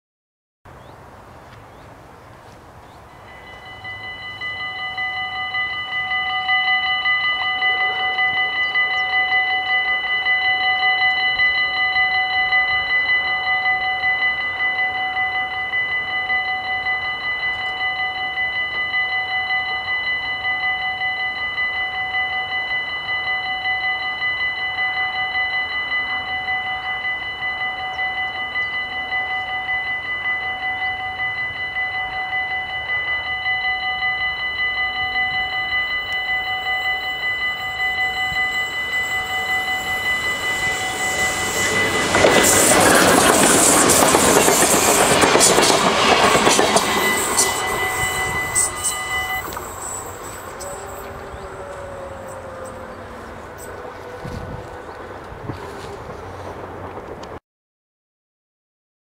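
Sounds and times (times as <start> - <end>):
level crossing bells ringing: 3.0 - 55.8.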